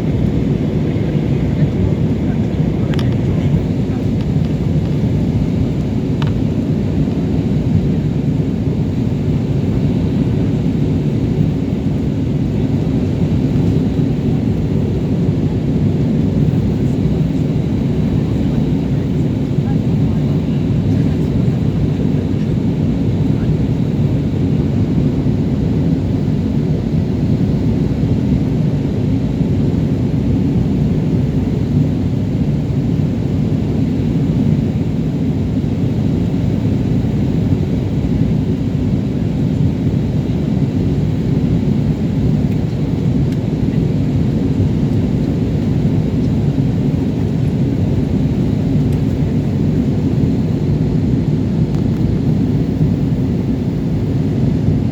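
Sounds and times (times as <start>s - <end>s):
jet airliner cabin rumble: 0.0s - 54.9s.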